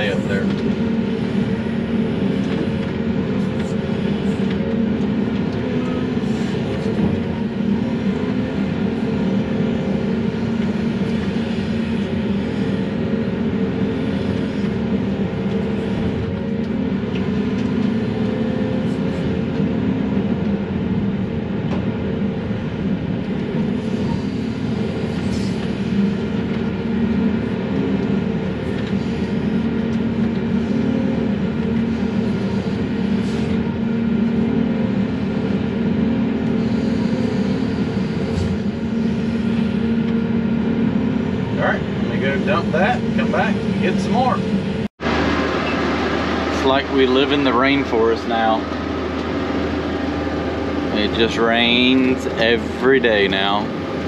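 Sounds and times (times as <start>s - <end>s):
excavator diesel engine drone: 0.0s - 54.0s.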